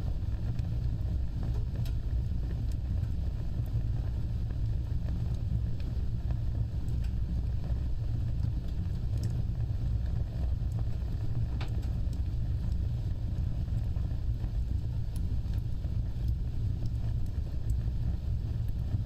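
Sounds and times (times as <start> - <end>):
fire crackles and pops: 0.0 - 19.0
wood fire flames rumbling: 0.0 - 19.0.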